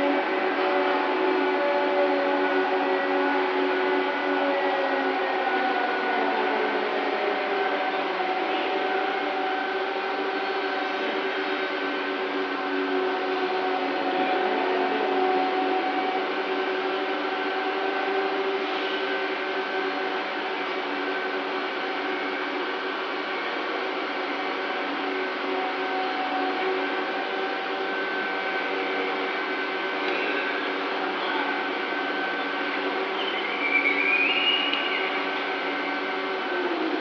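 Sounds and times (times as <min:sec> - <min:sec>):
ship machinery drone: 0:00.0 - 0:37.0.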